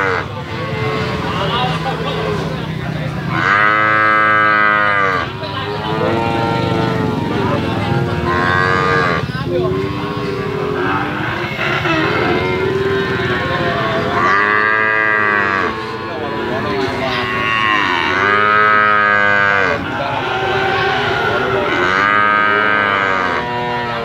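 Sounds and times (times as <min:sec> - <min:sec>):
steady background din: 0:00.0 - 0:24.0
calves mooing: 0:03.3 - 0:24.0.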